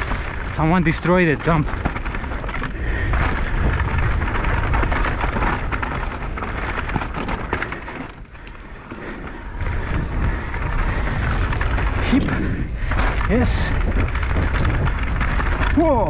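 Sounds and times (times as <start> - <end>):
bike rattling: 0.0 - 16.0
tyres crunching over dirt and stones: 0.0 - 16.0
wind rumbling on microphone: 0.0 - 16.0.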